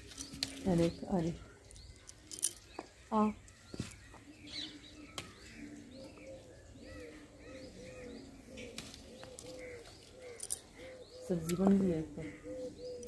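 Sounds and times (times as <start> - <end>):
doves cooing: 0.0 - 13.0
small birds chirping: 0.0 - 13.0.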